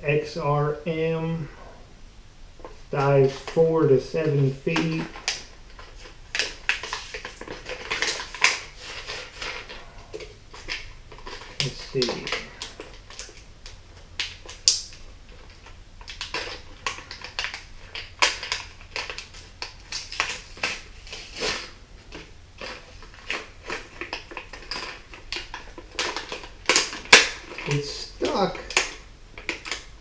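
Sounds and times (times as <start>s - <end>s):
plastic packaging crinkling: 4.4s - 30.0s.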